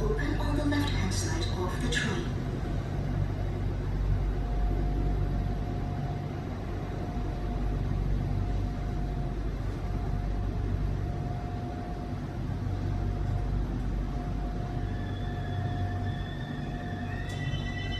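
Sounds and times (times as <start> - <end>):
electric train rumbling: 0.0 - 17.9
high train whine: 0.0 - 17.9.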